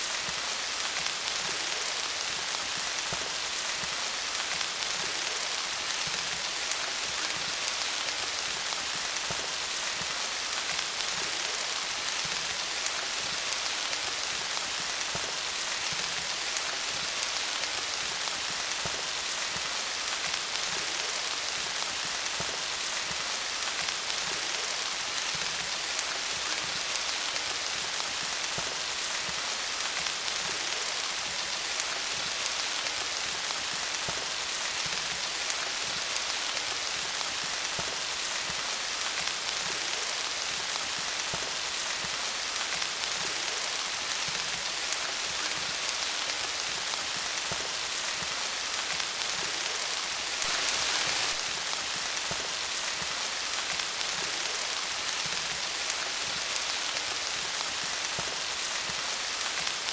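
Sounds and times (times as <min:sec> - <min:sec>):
rain pattering on leaves: 0:00.0 - 0:59.9.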